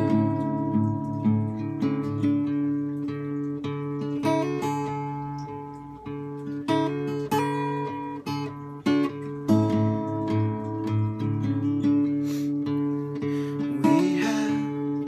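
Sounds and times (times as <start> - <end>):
solo acoustic guitar: 0.0 - 15.0.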